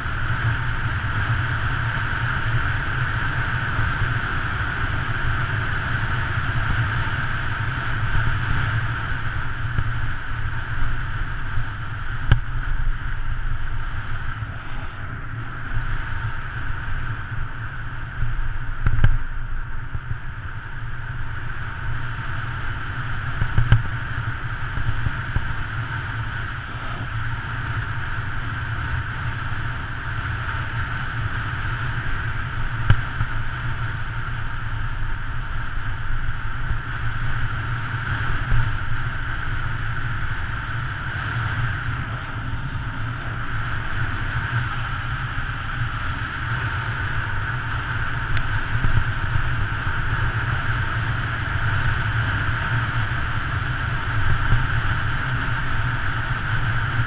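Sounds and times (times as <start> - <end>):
road noise rumble: 0.0 - 57.0
wind rushing over microphone: 0.0 - 57.0.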